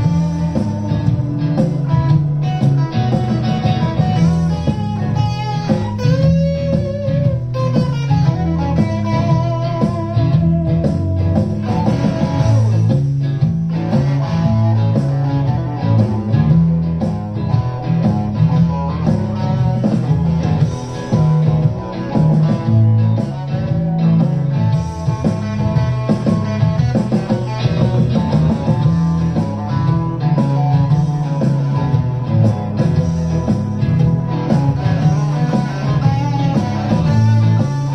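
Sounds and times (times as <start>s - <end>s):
electric guitar improvising: 0.0s - 37.9s.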